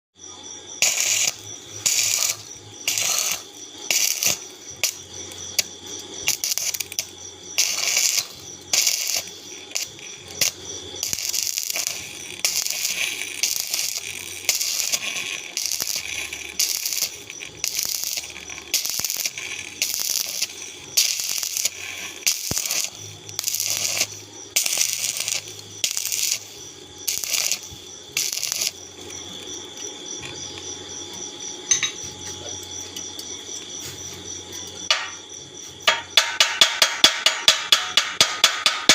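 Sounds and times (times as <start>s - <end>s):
arc welding crackling hiss: 0.2s - 38.9s.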